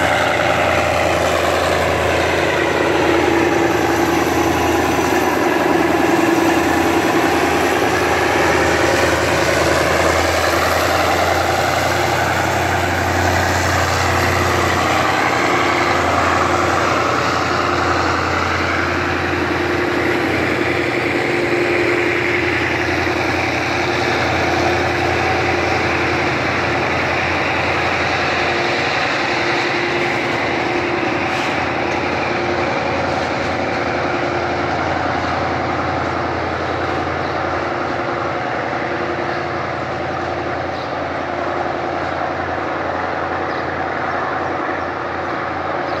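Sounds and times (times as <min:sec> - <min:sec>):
diesel engine tone: 0:00.0 - 0:46.0
freight train passing: 0:00.0 - 0:46.0.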